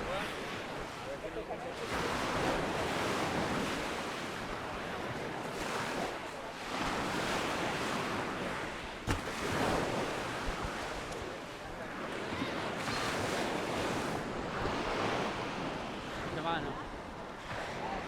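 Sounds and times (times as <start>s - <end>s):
small waves breaking on beach: 0.0s - 18.0s.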